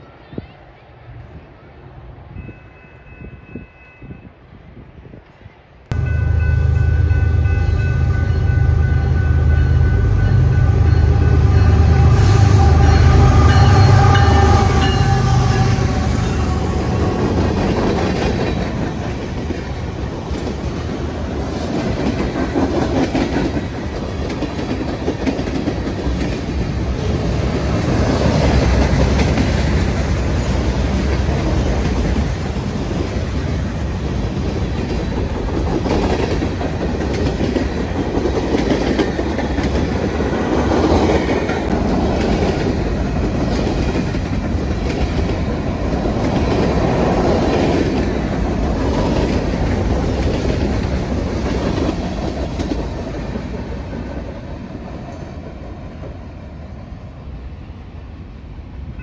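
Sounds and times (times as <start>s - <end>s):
diesel locomotive engine drone: 0.0s - 59.0s
train cars rumbling: 5.4s - 57.2s.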